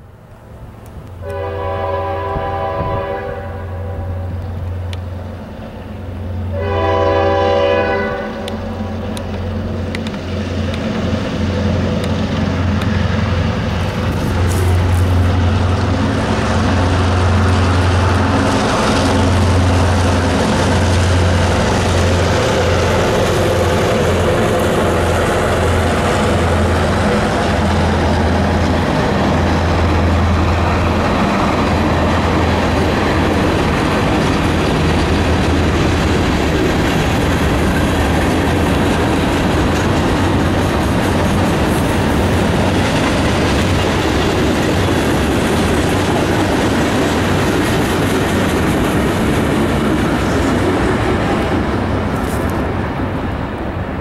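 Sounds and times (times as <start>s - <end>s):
diesel locomotive drone: 0.0s - 54.0s
train wheels clicking over rail joints: 8.2s - 52.8s.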